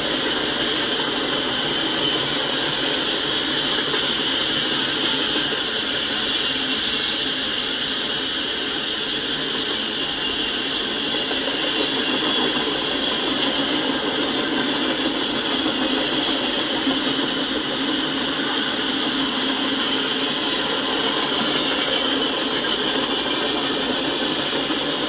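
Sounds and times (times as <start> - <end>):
steel wheels on rails: 0.0 - 25.0.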